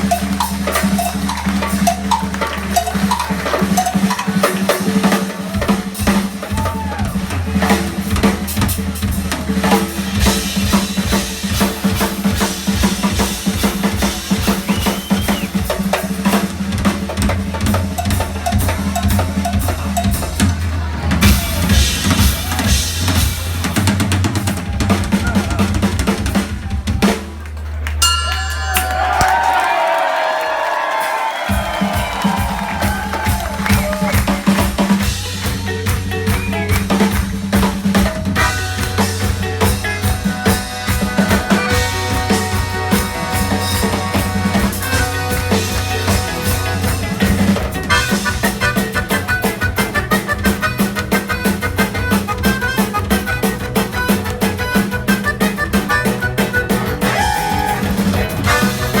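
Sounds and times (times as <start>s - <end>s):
drum kit played solo: 0.0s - 27.4s, 30.6s - 59.0s.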